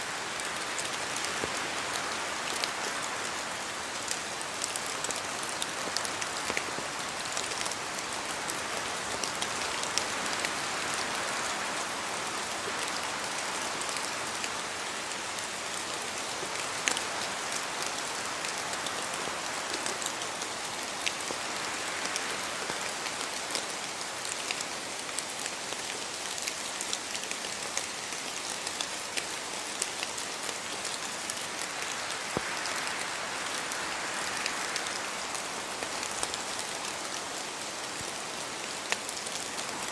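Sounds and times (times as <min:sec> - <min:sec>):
rain falling on trees: 0:00.0 - 0:39.9
wind gusts through trees: 0:00.0 - 0:39.9.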